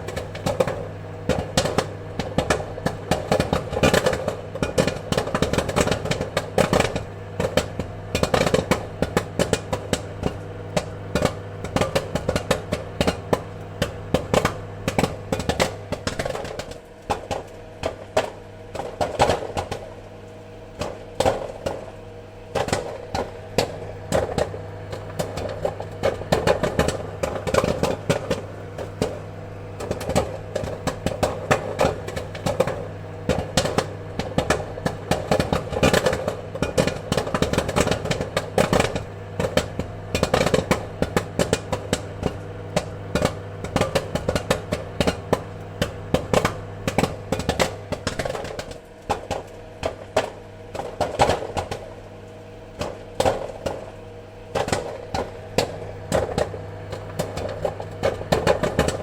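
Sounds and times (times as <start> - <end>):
popcorn kernels popping: 0.0 - 59.0
steady low hum: 0.0 - 59.0.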